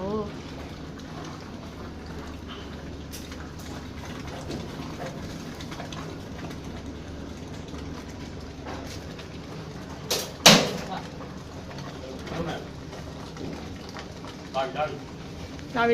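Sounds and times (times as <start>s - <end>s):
low machine hum: 0.0s - 15.9s.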